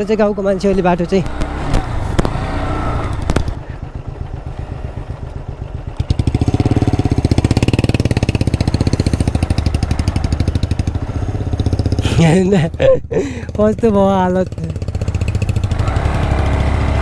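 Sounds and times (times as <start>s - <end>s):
motorcycle engine labouring: 0.0s - 17.0s.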